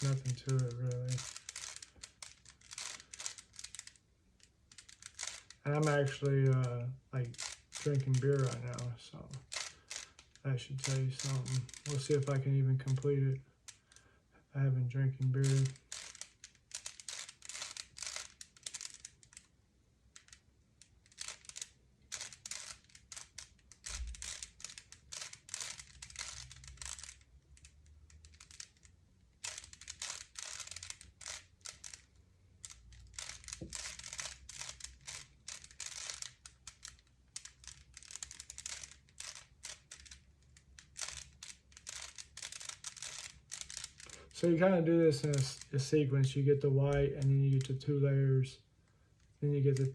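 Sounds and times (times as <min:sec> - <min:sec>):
plastic cube clicking and rattling: 0:00.0 - 0:13.1, 0:15.2 - 0:19.5, 0:20.1 - 0:45.9, 0:46.9 - 0:47.9, 0:49.2 - 0:49.9.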